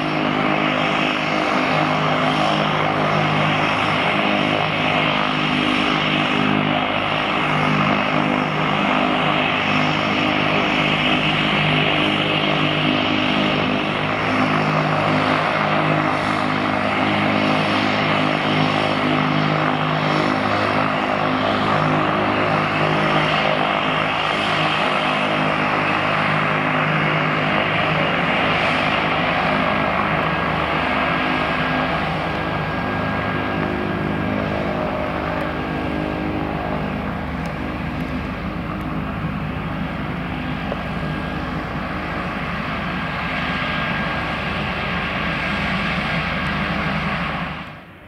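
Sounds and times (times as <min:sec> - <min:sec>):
high engine whine: 0:00.0 - 0:48.0
turboprop engine running: 0:00.0 - 0:48.0.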